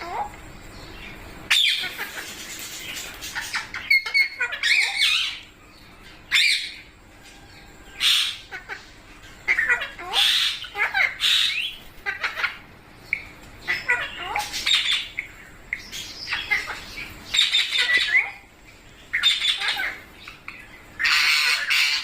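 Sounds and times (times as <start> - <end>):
parrot calling: 0.0 - 22.0.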